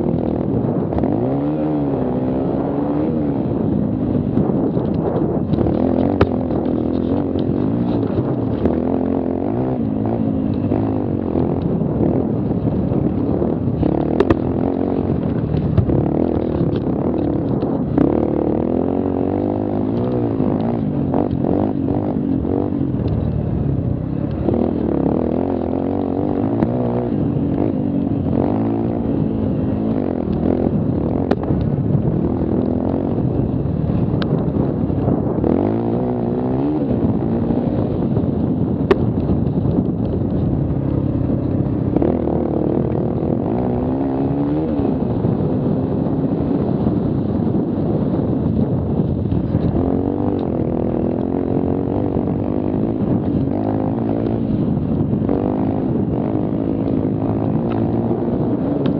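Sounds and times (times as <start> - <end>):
quad bike engine revving: 0.0 - 58.9.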